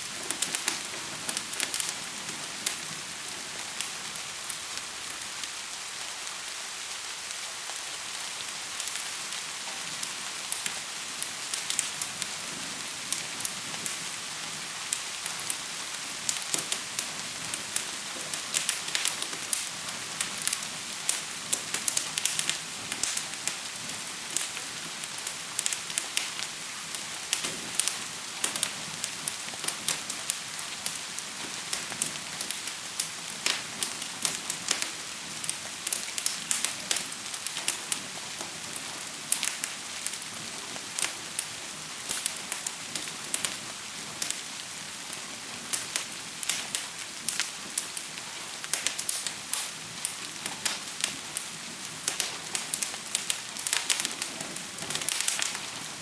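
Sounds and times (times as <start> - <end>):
fire crackling: 0.0 - 56.0
gentle rain falling: 0.0 - 56.0.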